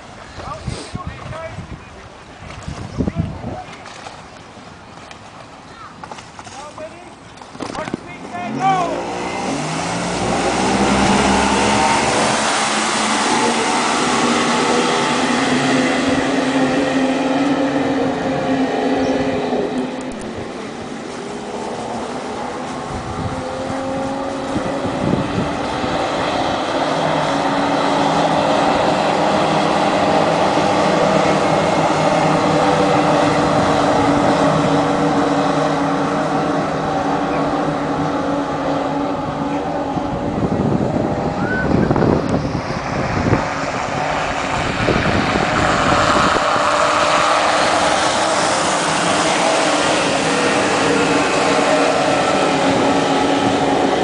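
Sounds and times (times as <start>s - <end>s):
powerboat engines racing past: 0.0s - 54.0s.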